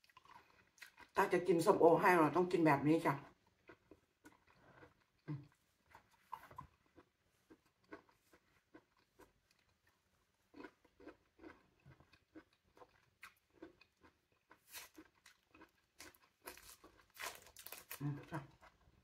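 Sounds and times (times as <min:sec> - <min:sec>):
soft chewing: 0:00.0 - 0:01.2, 0:03.2 - 0:19.0.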